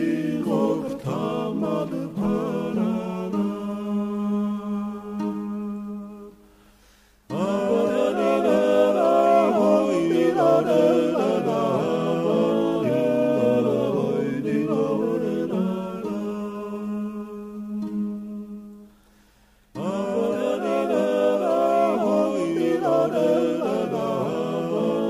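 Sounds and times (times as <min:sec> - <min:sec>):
choir singing a cappella: 0:00.0 - 0:06.4, 0:07.3 - 0:18.9, 0:19.7 - 0:25.0.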